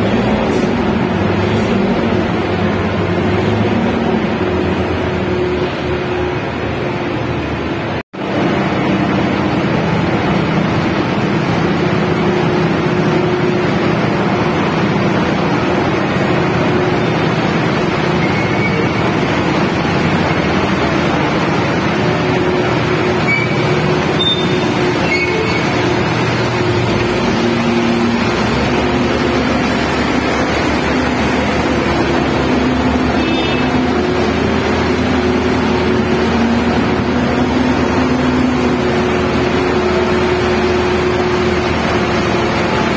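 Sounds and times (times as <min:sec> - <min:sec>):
diesel engine drone: 0:00.0 - 0:42.9
low engine note: 0:00.0 - 0:42.9.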